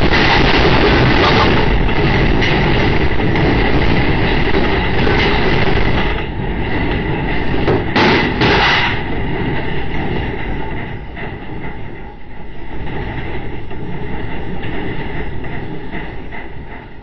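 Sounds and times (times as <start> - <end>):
house rumbling in earthquake: 0.0 - 17.0.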